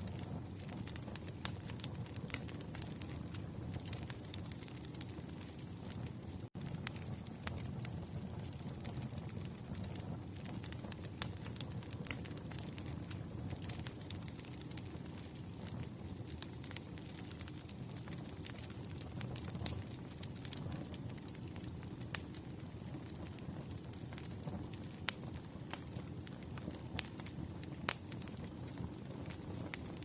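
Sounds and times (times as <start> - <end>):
fire rumbling: 0.0 - 30.0
firewood crackling and popping: 0.0 - 30.0.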